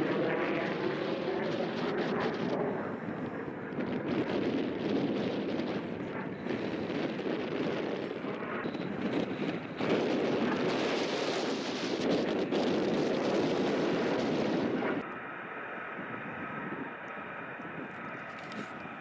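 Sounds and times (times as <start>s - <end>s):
jet engine noise: 0.0s - 19.0s
steady whine: 0.0s - 19.0s.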